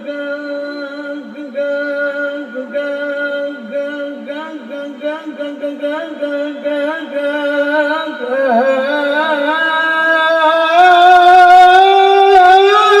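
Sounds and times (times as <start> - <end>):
man singing ornamented vocals: 0.0 - 13.0.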